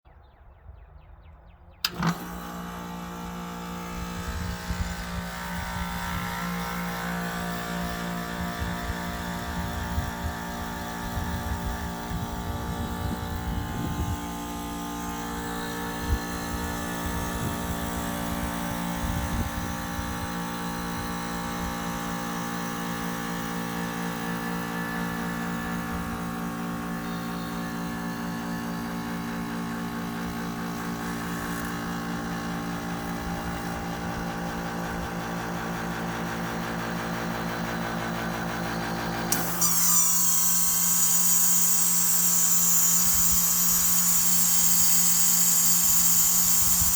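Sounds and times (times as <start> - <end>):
compressor squealing and humming: 1.8 - 46.9.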